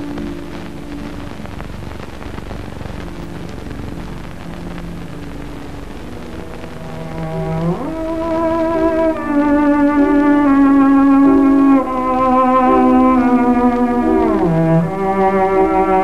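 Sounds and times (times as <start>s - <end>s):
rain pattering: 0.0s - 16.0s
soft low held music notes: 0.0s - 16.0s.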